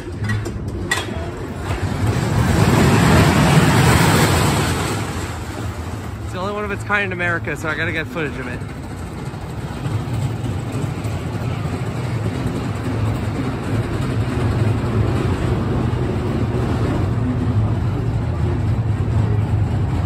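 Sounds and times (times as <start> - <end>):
roller coaster rumbling on track: 0.0 - 20.0.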